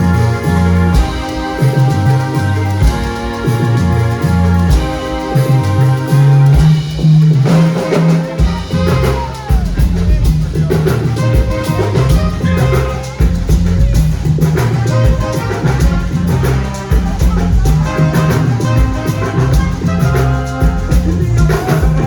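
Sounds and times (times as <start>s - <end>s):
band playing music: 0.0s - 22.0s
bass line: 0.0s - 22.0s
drum kit beat: 0.0s - 22.0s.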